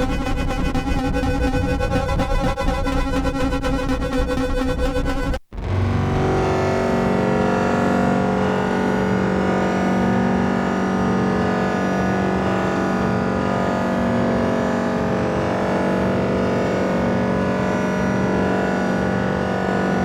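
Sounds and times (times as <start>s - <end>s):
gritty buzzing synthesizer drone: 0.0s - 20.0s.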